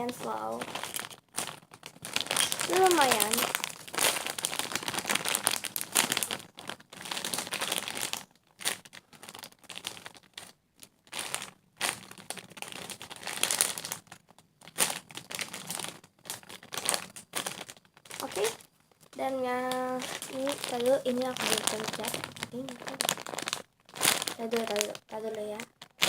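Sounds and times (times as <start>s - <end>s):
foam toy crackling and crinkling: 0.0s - 26.0s.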